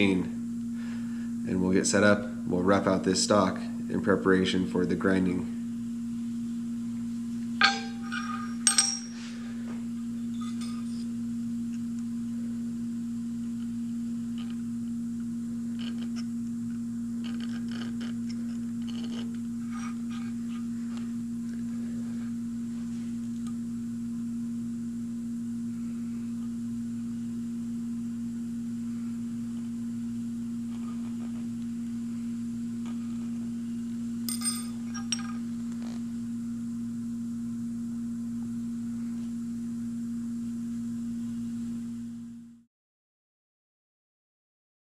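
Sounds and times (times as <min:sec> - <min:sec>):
low electrical hum: 0:00.0 - 0:42.7.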